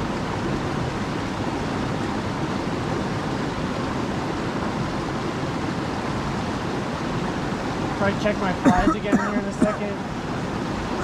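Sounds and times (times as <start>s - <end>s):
fast-flowing river: 0.1s - 11.0s.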